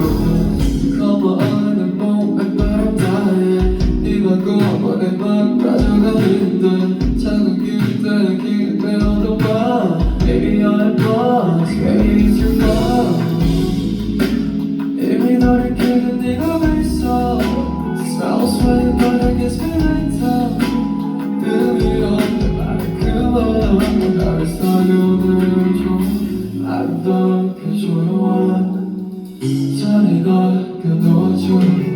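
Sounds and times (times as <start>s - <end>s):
song with male vocal and band: 0.0s - 31.9s.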